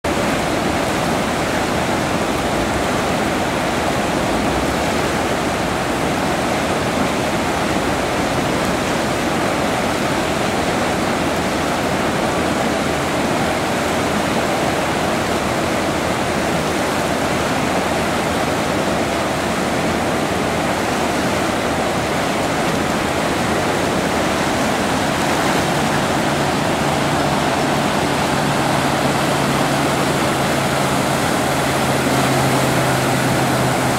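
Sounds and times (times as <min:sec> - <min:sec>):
whitewater rushing: 0:00.0 - 0:33.9.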